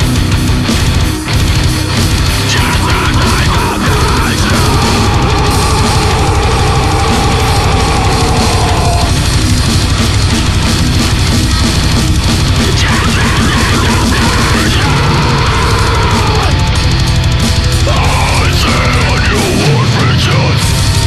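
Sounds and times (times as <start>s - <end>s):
death metal music: 0.0s - 21.0s.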